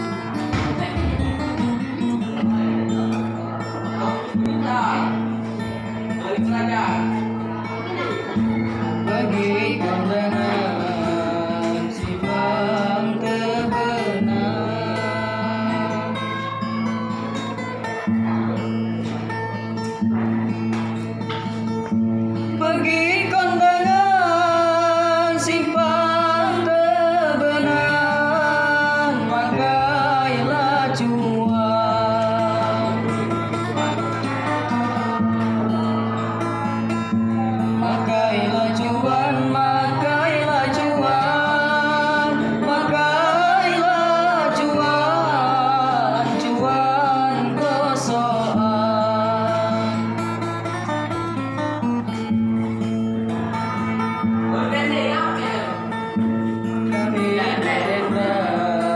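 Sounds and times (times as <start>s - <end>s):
acoustic guitar strumming: 0.0s - 58.9s.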